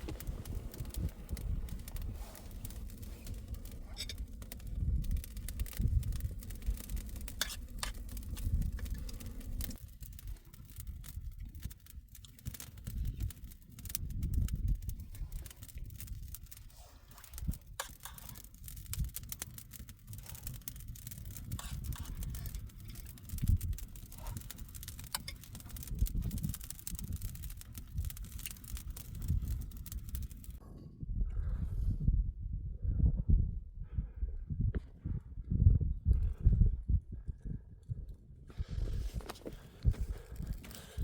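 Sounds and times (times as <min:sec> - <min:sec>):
sharp clicks and crackles: 0:00.0 - 0:30.6, 0:38.6 - 0:41.0
wind buffeting microphone: 0:00.0 - 0:41.0.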